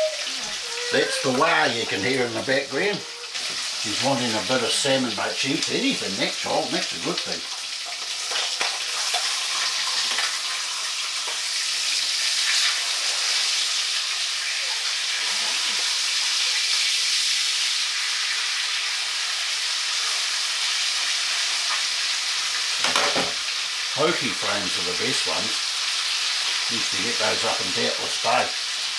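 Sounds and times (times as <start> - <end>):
fish sizzling in a frying pan: 0.0 - 28.9.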